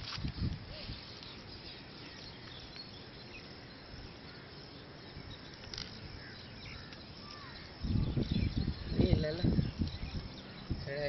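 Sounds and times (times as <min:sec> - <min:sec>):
bird chirps: 0:00.7 - 0:11.0.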